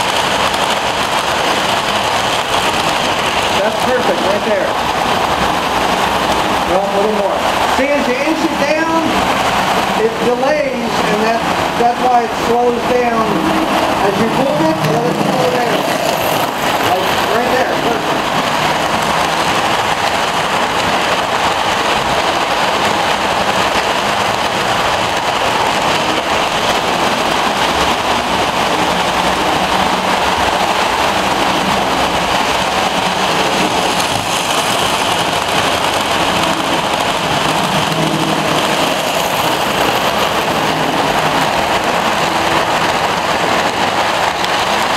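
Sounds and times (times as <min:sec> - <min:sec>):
model trains rolling on rails: 0:00.0 - 0:44.9.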